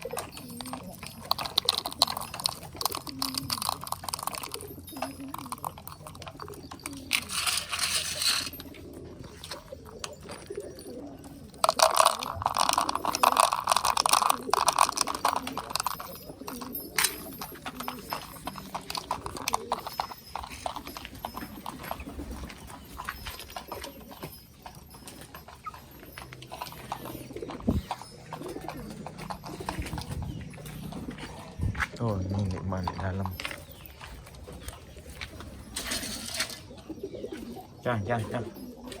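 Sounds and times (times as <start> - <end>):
pigeons cooing: 0.0 - 39.0
pigeons tapping and clicking: 0.0 - 39.0.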